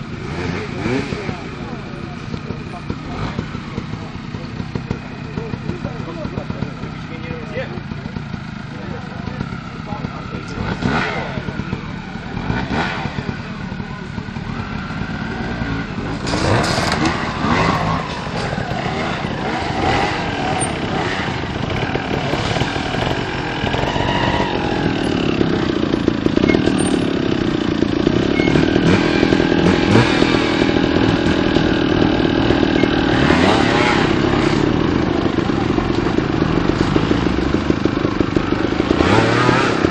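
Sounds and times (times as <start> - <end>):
motorcycle engine running: 0.0 - 39.9
people talking: 0.3 - 27.1, 28.4 - 39.9.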